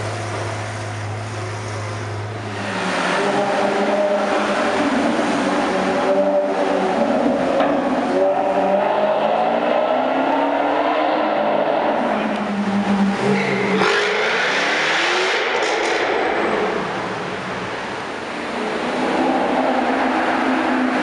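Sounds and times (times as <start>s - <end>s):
car with hissy exhaust: 0.0s - 9.6s, 11.9s - 21.0s
sports car engines accelerating: 0.0s - 21.0s.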